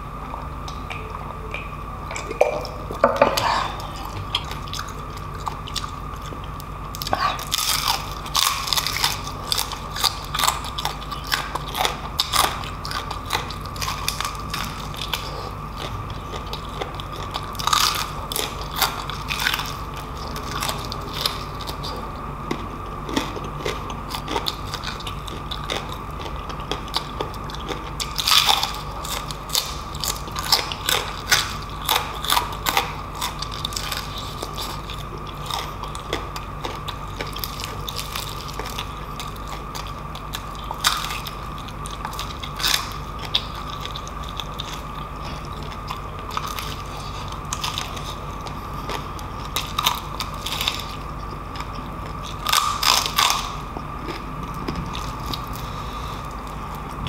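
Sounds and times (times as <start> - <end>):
crunchy chewing: 0.0 - 57.0
low hum: 0.0 - 57.0
steady high hum: 0.0 - 57.0.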